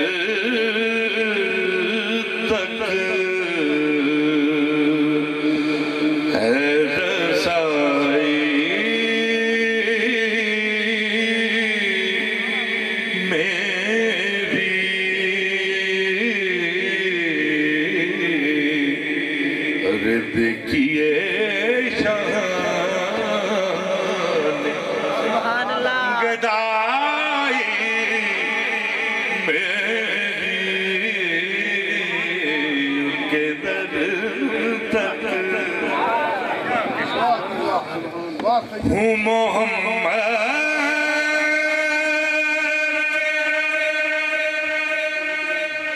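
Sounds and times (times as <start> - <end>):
man singing into a microphone: 0.0 - 36.3, 38.8 - 45.9.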